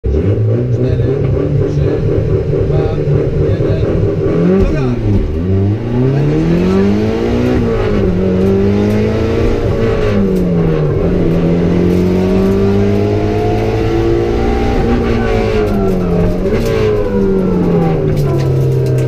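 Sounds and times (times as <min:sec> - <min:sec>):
car engine revving: 0:00.0 - 0:19.0
road noise: 0:00.0 - 0:19.0.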